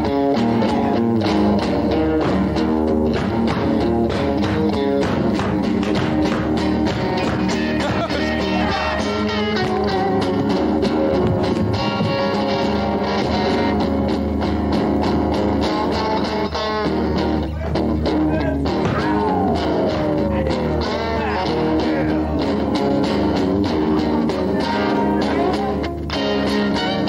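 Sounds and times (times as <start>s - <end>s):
steady drums: 0.0s - 26.0s
electric guitars playing: 0.0s - 27.0s.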